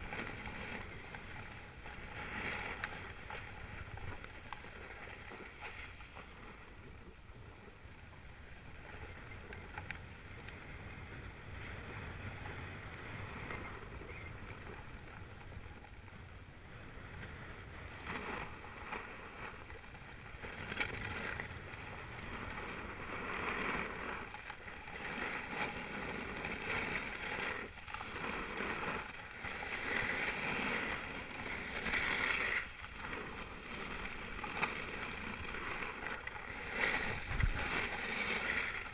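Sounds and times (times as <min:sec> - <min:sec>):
skis scraping over packed snow: 0:00.0 - 0:38.9
wind rumble on microphone: 0:00.0 - 0:38.9.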